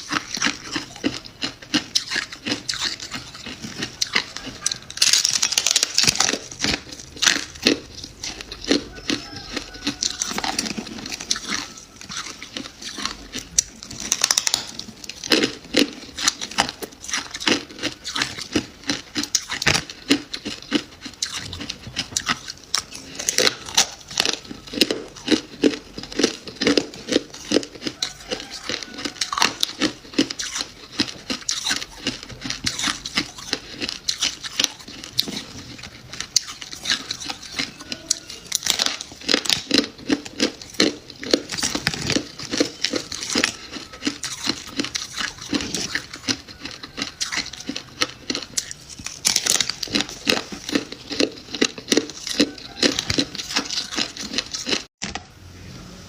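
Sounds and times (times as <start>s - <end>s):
frost crunching being chewed: 0.0s - 55.3s.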